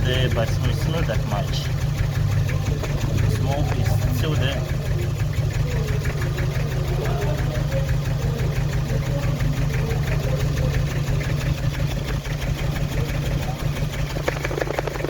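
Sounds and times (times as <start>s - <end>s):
diesel engine idling rough: 0.0s - 15.0s.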